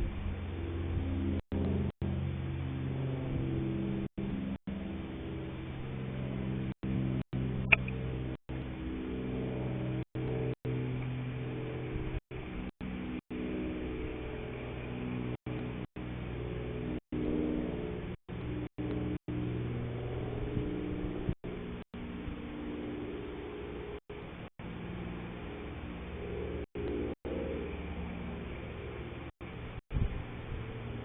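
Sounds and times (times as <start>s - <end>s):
low humming drone: 0.0s - 31.0s.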